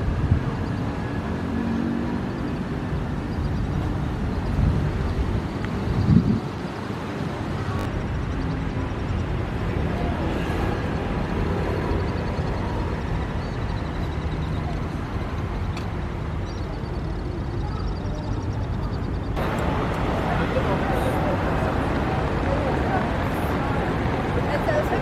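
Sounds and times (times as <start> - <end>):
distant traffic rumble: 0.0 - 25.0.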